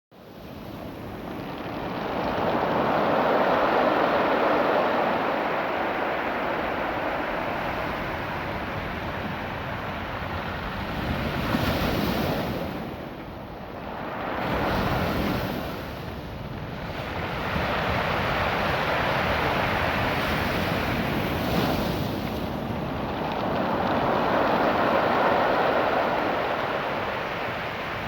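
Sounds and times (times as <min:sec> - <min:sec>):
surf washing over pebbles: 0:00.3 - 0:28.0.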